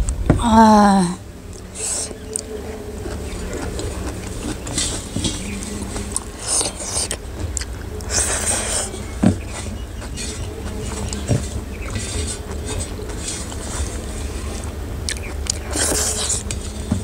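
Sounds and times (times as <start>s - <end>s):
low background rumble: 0.0s - 17.0s
chewing with wet mouth smacks: 1.5s - 16.8s.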